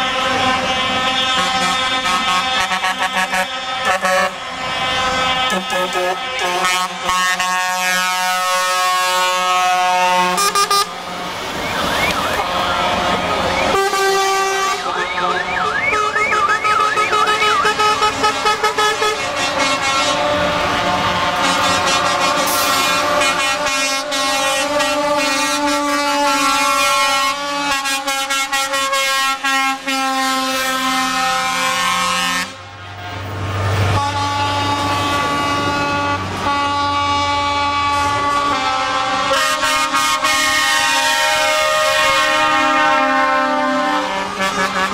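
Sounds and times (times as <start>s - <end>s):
warbling siren-like horn: 0.0s - 32.6s, 33.9s - 44.9s
truck air horns: 0.0s - 44.9s
truck engine rumble: 0.0s - 44.9s.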